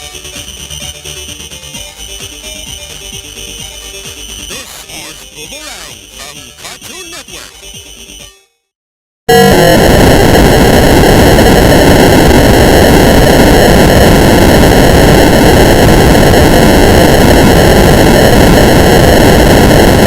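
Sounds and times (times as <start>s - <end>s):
harsh static-like digital noise: 0.0s - 7.6s, 9.3s - 20.0s.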